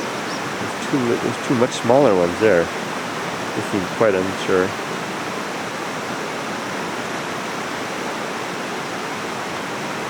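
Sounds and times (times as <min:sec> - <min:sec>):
waterfall and river rushing: 0:00.0 - 0:10.0.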